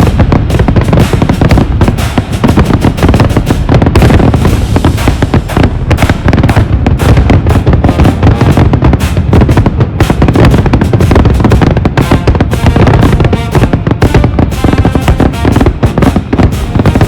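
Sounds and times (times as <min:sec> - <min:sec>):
fireworks banging and crackling: 0:00.0 - 0:17.0
music with heavy drum beat: 0:00.0 - 0:17.0.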